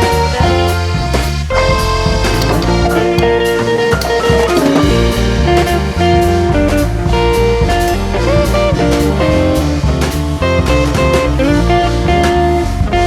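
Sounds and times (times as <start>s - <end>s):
steady drum beat: 0.0s - 11.4s
guitar: 0.0s - 13.0s.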